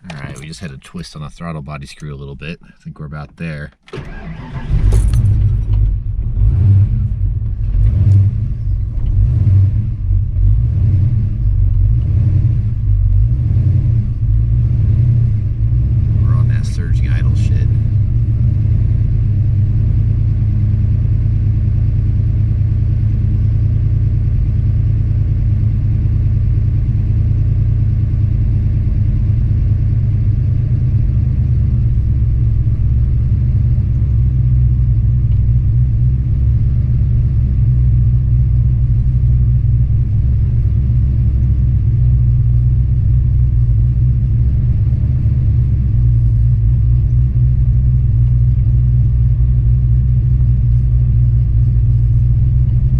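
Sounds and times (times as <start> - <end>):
engine idling: 4.0 - 52.9.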